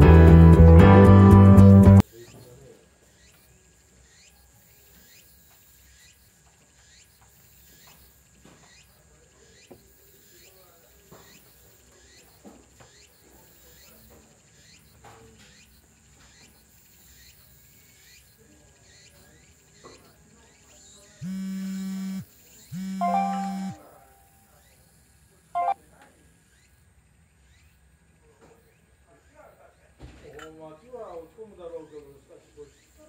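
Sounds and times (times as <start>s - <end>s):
insects chirping: 2.0s - 29.8s, 30.7s - 33.0s.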